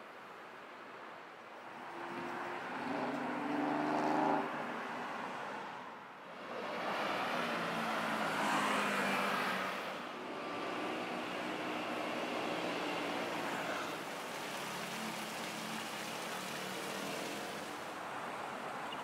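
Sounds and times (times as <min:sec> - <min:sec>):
cars passing by: 0:00.7 - 0:19.0.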